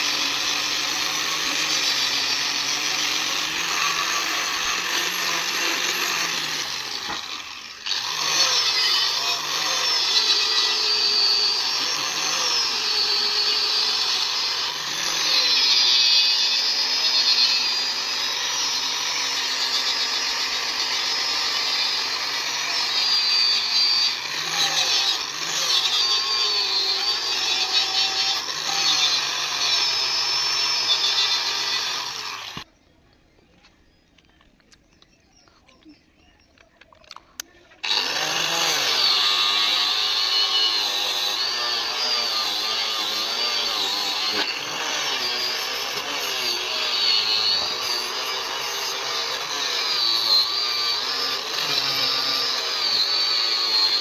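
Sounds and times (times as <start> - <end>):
power tool running on steel: 0.0 - 32.7, 37.8 - 54.0.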